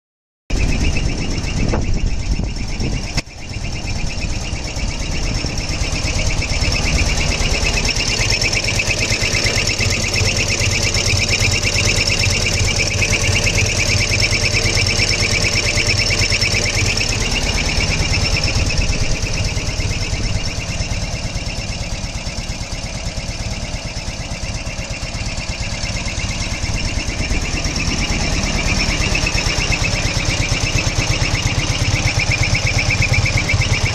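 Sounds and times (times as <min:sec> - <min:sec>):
high-pitched whistle: 0:00.5 - 0:33.9
motorcycle engine running: 0:00.5 - 0:33.9.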